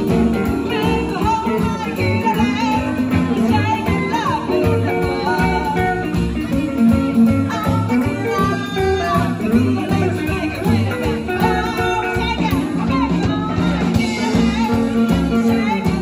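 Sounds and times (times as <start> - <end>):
acoustic guitar: 0.0 - 16.0
double bass: 0.0 - 16.0
drums: 0.0 - 16.0
electric guitar: 0.0 - 16.0.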